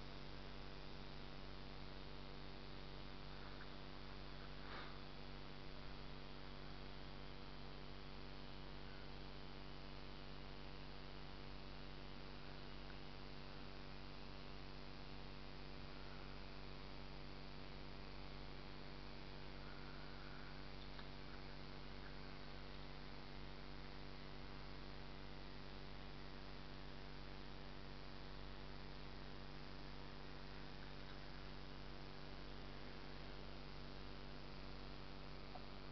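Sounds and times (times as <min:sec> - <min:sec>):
faint electrical hum: 0:00.0 - 0:35.9.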